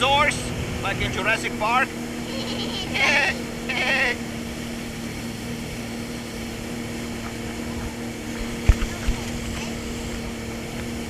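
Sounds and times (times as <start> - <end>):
jet ski engine drone: 0.0 - 11.0.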